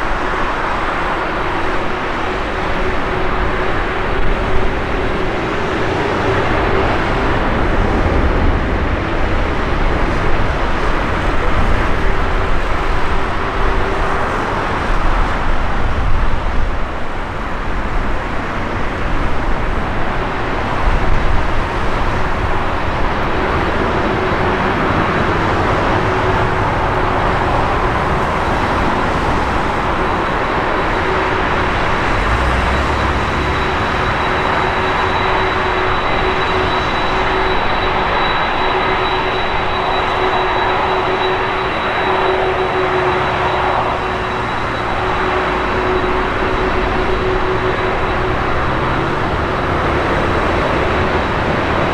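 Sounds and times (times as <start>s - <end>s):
steady loud rushing noise: 0.0s - 51.9s
wind buffeting microphone: 0.0s - 51.9s.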